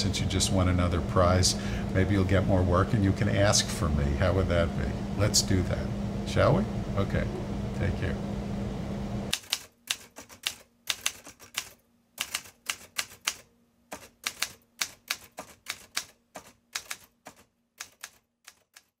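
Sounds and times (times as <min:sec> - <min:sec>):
faint steady hum: 0:00.0 - 0:18.4.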